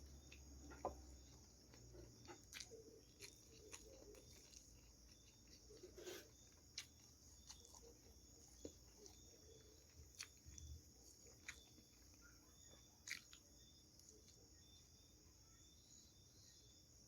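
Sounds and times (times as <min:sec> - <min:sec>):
quiet chewing clicks: 0:00.0 - 0:15.4
soft chirps: 0:00.0 - 0:17.0
insect trilling: 0:00.1 - 0:16.8.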